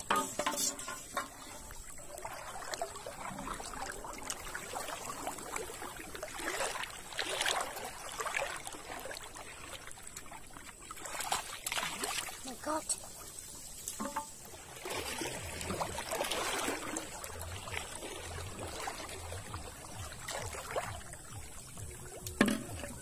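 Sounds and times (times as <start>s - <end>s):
water sloshing around wading person: 0.0s - 23.0s.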